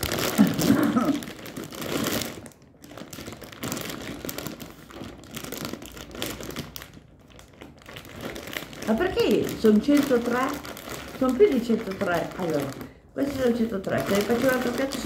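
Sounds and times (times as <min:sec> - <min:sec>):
plastic bag of pasta crinkling: 0:00.0 - 0:15.0.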